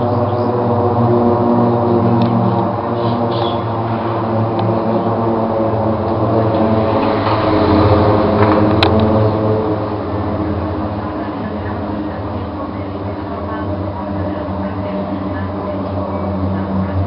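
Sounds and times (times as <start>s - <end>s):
aircraft engines droning overhead: 0.0s - 17.0s.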